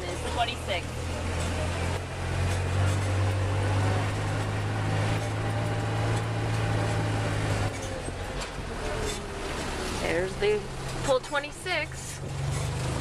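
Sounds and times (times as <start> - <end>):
golf cart motor hum: 0.0 - 13.0
road and wind noise: 0.0 - 13.0.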